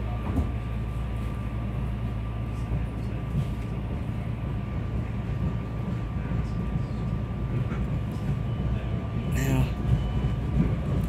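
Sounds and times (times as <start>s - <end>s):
electric train rumbling on track: 0.0s - 11.0s.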